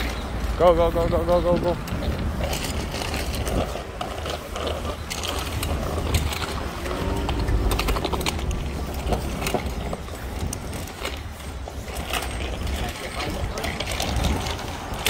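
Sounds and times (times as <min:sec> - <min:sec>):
bicycle clicks and rattles: 0:00.0 - 0:15.0
bicycle rolling on concrete: 0:00.0 - 0:15.0.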